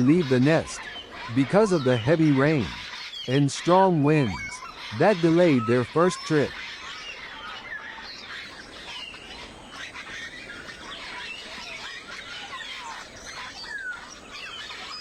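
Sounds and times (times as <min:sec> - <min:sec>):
many birds chirping: 0:00.0 - 0:15.0.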